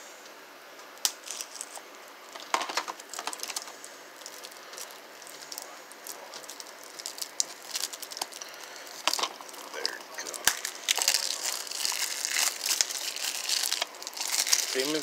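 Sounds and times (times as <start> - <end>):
plastic wrap crinkling: 1.0 - 15.0.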